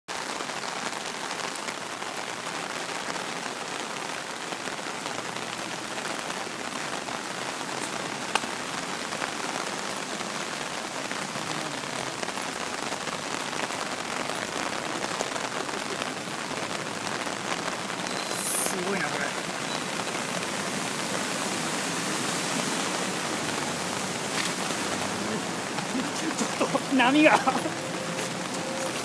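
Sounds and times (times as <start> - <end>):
heavy rain on flooded street: 0.1 - 29.0.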